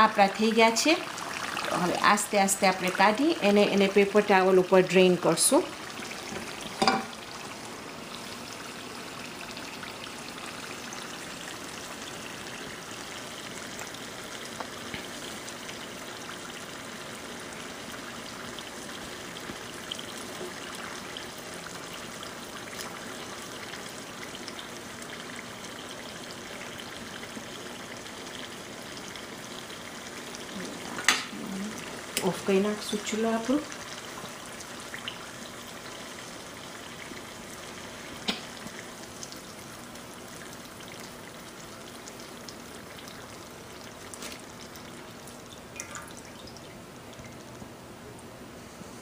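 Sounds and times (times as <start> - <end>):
deep-frying sizzle and crackle: 0.0 - 49.0.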